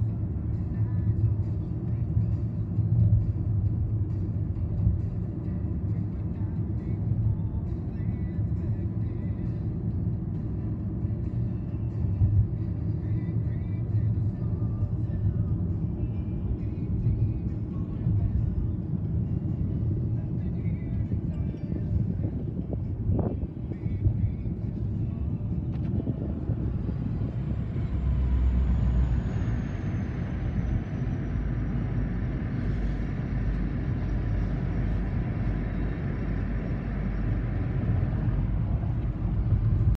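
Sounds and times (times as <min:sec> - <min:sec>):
car road and engine rumble: 0:00.0 - 0:39.9
faint music: 0:00.0 - 0:39.9.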